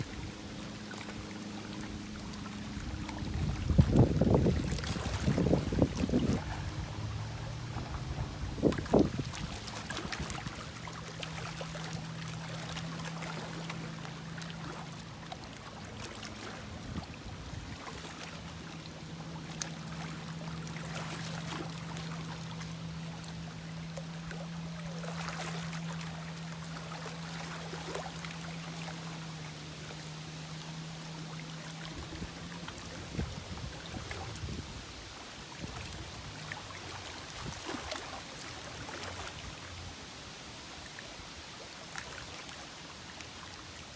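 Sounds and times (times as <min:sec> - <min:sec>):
steady low hum: 0:00.0 - 0:37.9
lake water lapping: 0:00.0 - 0:43.9.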